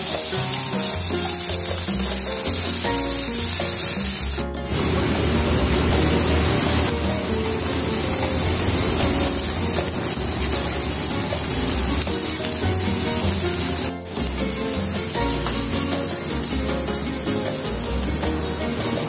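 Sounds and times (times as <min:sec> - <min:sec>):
background music: 0:00.0 - 0:19.0
garlic and onions sizzling in oil: 0:00.0 - 0:19.0.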